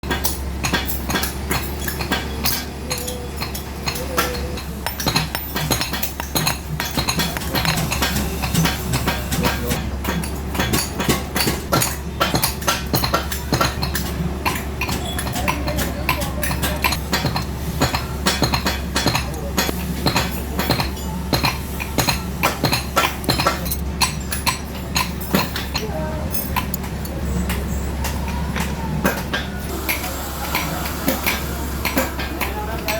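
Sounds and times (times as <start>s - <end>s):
hammer striking metal: 0.1s - 32.9s.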